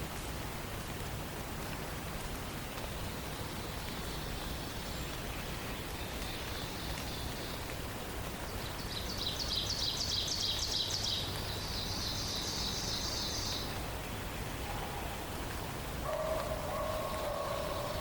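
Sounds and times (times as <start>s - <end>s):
hiss of rain or running water: 0.0s - 18.0s.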